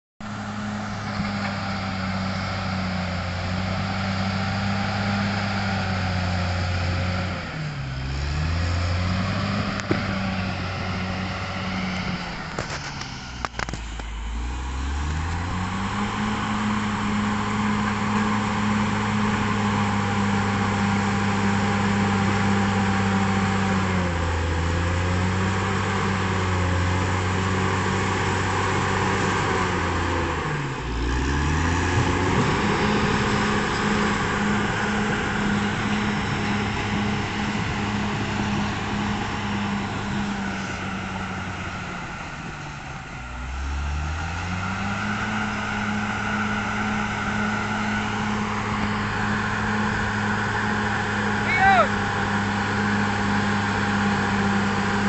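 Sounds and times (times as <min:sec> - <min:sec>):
bulldozer diesel engine: 0:00.2 - 0:55.0.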